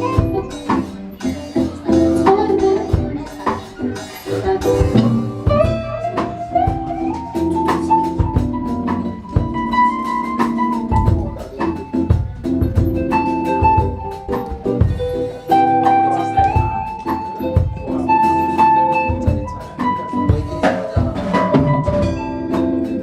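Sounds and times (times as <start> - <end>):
bass guitar: 0.0 - 23.0
drum hits: 0.0 - 23.0
live band playing: 0.0 - 23.0.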